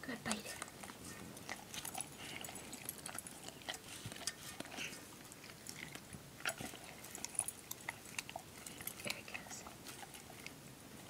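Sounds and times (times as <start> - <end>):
dog chewing food: 0.1 - 11.0.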